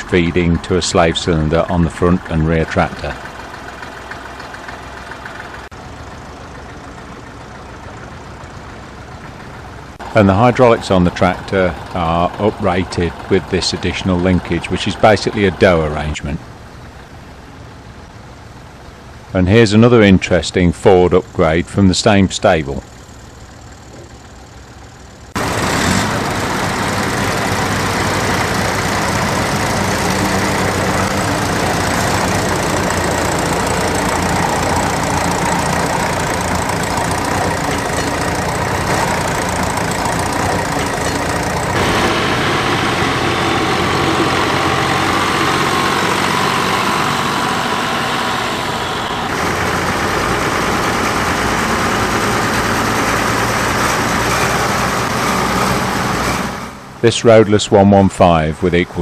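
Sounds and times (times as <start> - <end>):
tractor engines running under load: 0.0 - 59.0.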